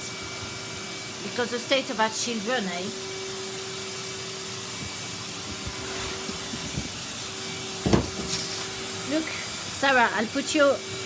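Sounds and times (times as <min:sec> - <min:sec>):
vacuum cleaner humming: 0:00.0 - 0:11.0.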